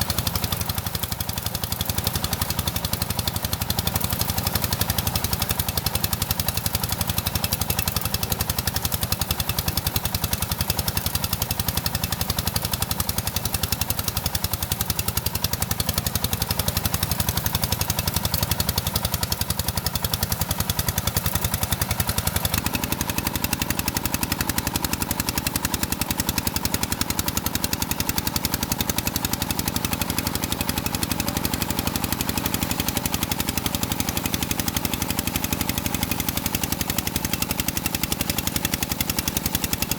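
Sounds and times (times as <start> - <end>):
engine knocking rapidly: 0.0 - 39.9.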